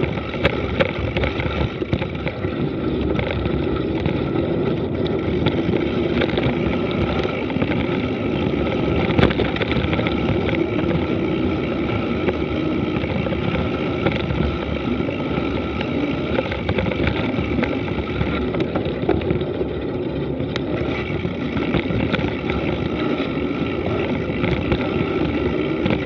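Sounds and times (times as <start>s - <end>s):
bike rattles and clicks: 0.0s - 26.0s
bike tyre rumble on dirt: 0.0s - 26.0s
wind on microphone: 0.0s - 26.0s.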